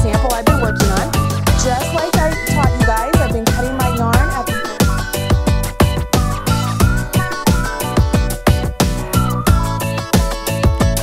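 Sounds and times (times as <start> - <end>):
upbeat electronic music: 0.0 - 11.0.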